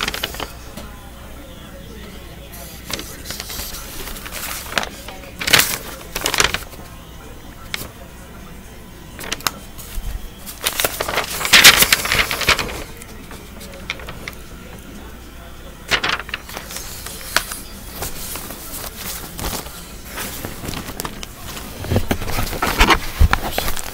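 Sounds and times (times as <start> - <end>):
paper rustling: 0.0 - 1.0, 2.5 - 7.0, 7.6 - 8.1, 9.1 - 23.9.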